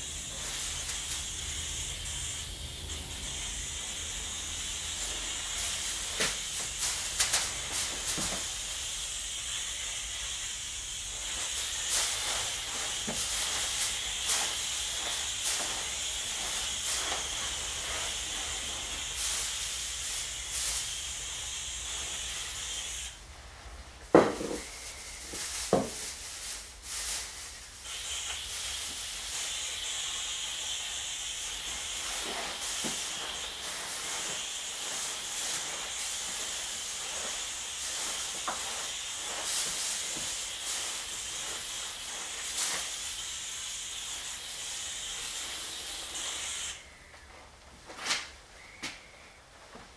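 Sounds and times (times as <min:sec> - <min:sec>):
pressure sprayer hissing: 0:00.0 - 0:47.0.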